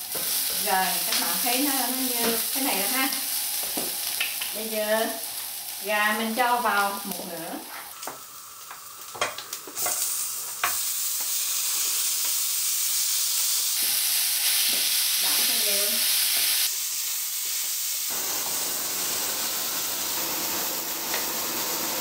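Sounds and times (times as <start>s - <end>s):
chicken sizzling in frying pan: 0.0s - 22.0s.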